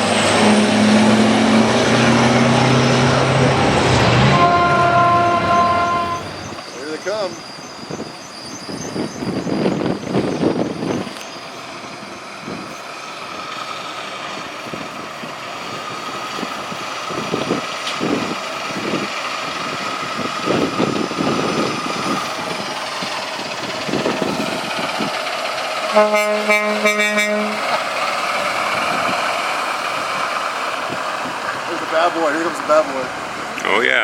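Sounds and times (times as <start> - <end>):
truck engine running: 0.0 - 8.1, 9.3 - 34.0.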